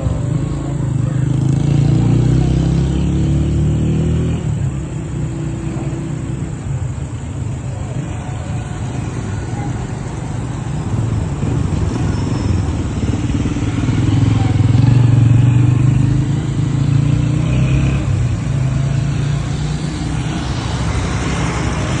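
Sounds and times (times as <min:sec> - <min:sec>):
motor vehicle engine rumbling: 0:00.0 - 0:22.0.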